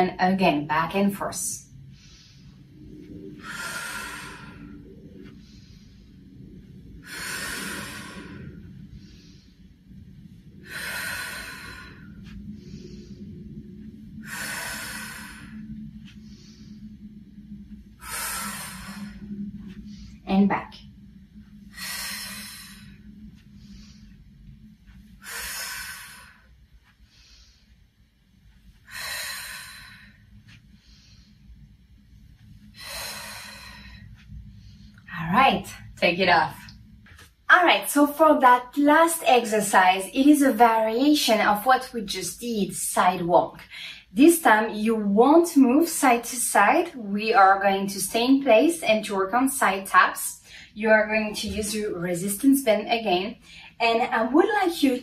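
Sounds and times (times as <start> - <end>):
faint breaths: 0.9 - 39.6, 40.4 - 44.6, 45.8 - 52.4, 53.3 - 53.8.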